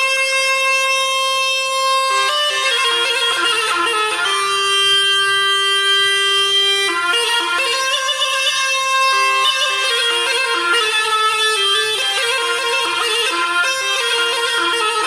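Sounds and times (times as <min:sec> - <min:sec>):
bagpipe music: 0:00.0 - 0:15.0.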